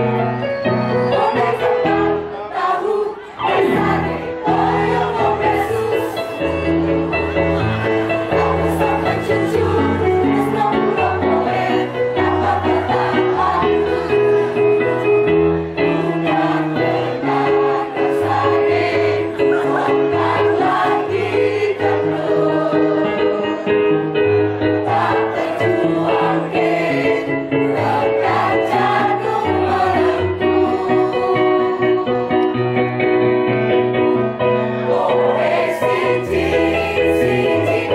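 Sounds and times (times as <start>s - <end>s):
mixed choir singing: 0.7s - 32.6s, 34.6s - 37.9s.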